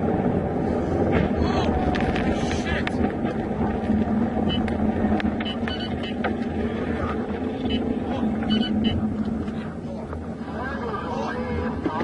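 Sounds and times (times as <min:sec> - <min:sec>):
car driving at highway speed: 0:00.0 - 0:12.0.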